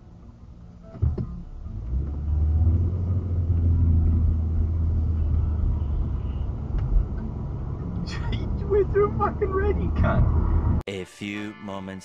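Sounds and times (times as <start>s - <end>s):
car engine and road rumble: 0.0s - 10.9s.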